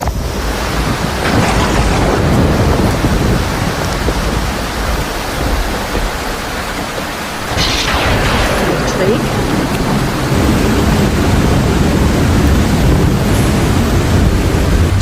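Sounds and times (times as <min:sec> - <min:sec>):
deep rumble: 0:00.0 - 0:15.0
heavy rain: 0:00.0 - 0:15.0.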